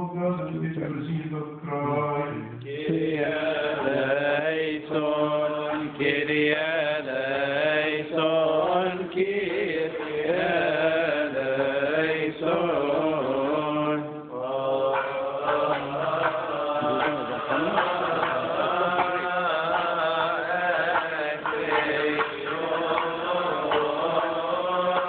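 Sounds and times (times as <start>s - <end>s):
men chanting a hymn: 0.0s - 25.0s.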